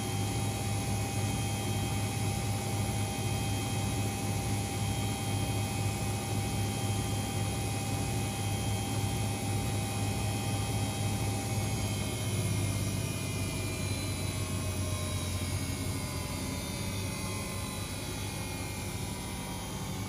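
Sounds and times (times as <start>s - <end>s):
washing machine spinning: 0.0s - 20.0s.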